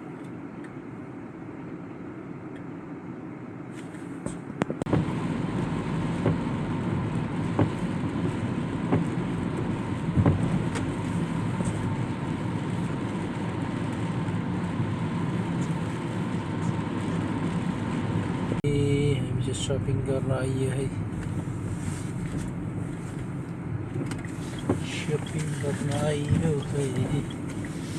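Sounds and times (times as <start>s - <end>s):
vehicle running rumble: 0.0s - 27.9s.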